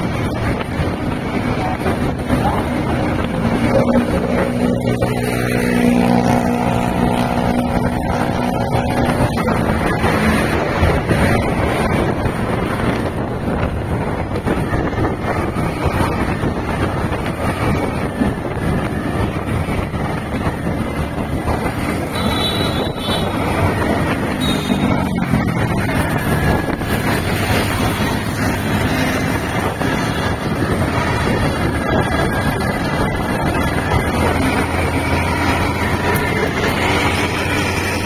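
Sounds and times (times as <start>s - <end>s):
traffic and road noise: 0.0s - 38.0s
truck engine running: 0.0s - 38.0s
wind on microphone: 0.0s - 38.0s.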